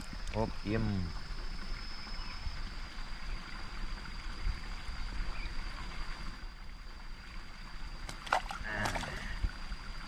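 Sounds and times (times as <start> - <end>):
high-pitched whine: 0.0 - 10.0
water trickling into pond: 0.0 - 10.0.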